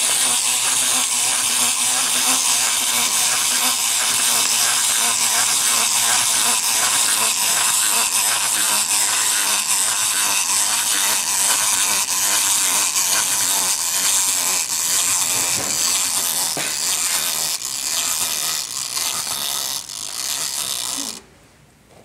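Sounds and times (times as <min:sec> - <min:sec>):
toy walking mechanism whirring: 0:00.0 - 0:21.2.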